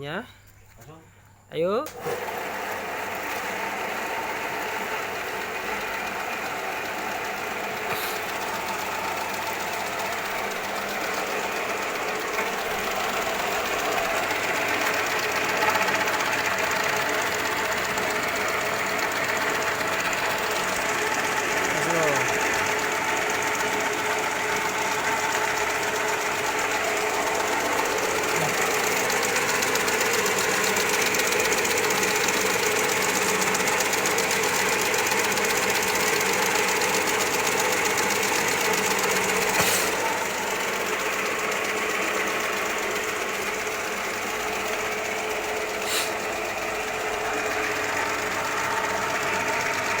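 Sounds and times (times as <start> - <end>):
machine motor running: 1.9 - 50.0.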